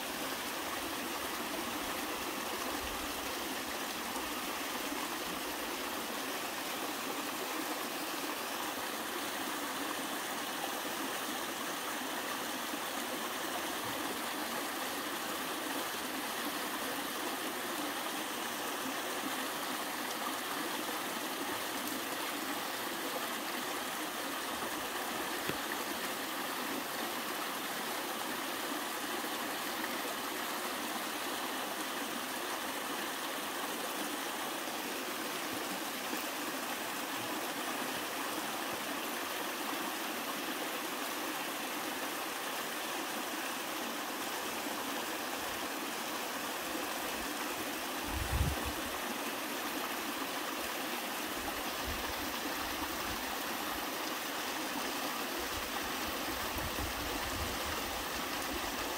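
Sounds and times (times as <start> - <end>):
stream rushing over rocks: 0.0 - 58.9.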